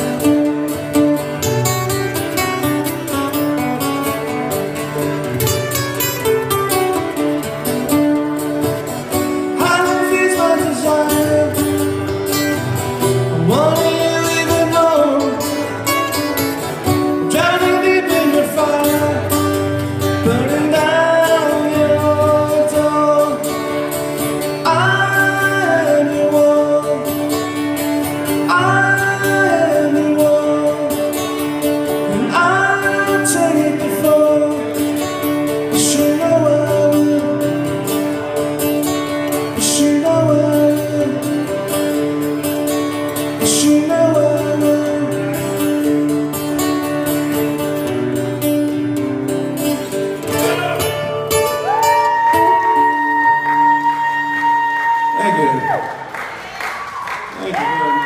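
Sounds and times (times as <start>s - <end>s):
acoustic guitar chords: 0.0s - 55.4s.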